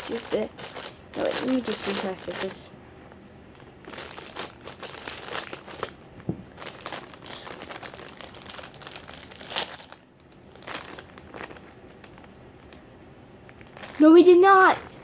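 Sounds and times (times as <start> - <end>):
plastic packaging crackling: 0.0 - 12.8, 13.4 - 15.0.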